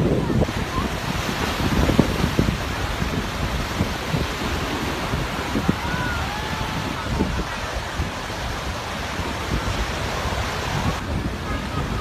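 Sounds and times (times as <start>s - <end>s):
surf breaking on sandy beach: 0.0s - 12.0s
wind buffeting microphone: 0.0s - 12.0s.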